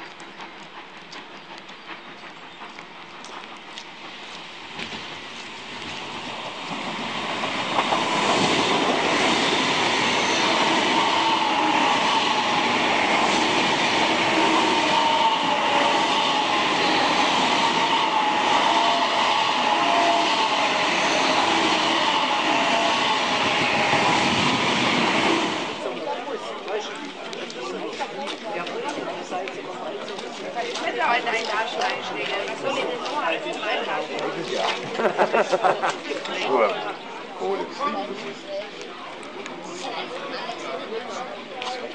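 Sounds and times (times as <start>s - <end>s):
steam train rolling in: 0.0s - 41.9s.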